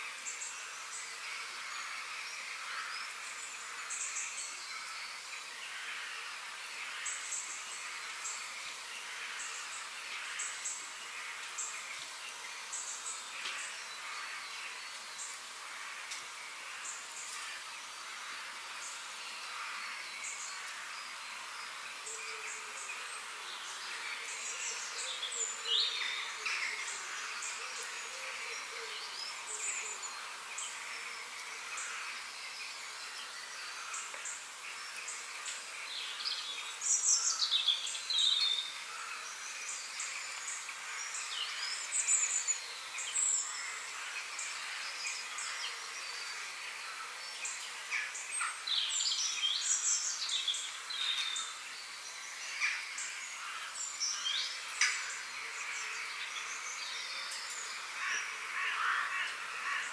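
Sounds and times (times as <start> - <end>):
songbirds chirping and trilling: 0.0 - 59.9
steady outdoor hiss: 0.0 - 59.9.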